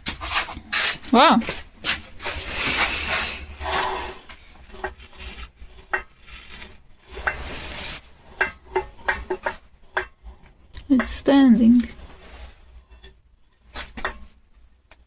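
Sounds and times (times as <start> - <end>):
metal scraping and rubbing: 0.0 - 14.4.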